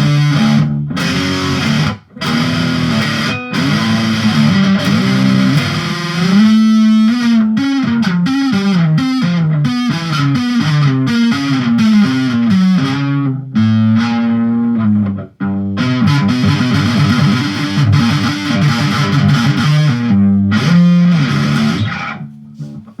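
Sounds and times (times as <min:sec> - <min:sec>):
distorted electric guitar riffs: 0:00.0 - 0:23.0.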